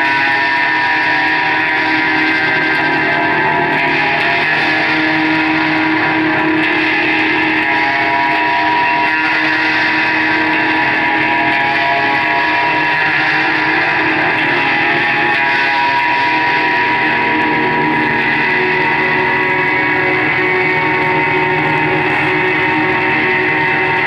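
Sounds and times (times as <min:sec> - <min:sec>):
distorted electric guitar: 0:00.0 - 0:24.0.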